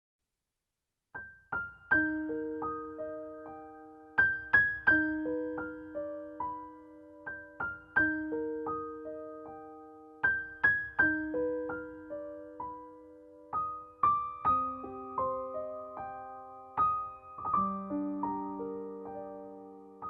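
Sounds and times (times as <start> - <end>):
slow solo piano melody: 1.2 - 20.0.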